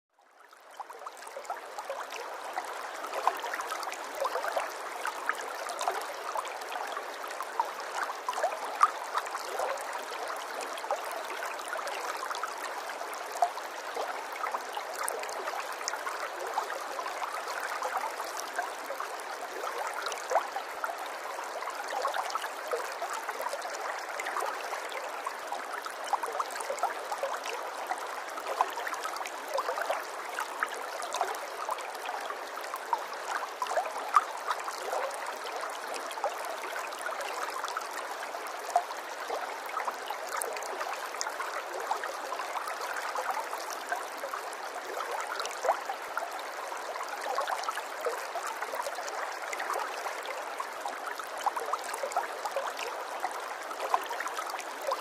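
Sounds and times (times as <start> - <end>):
stream babbling: 0.5 - 55.0.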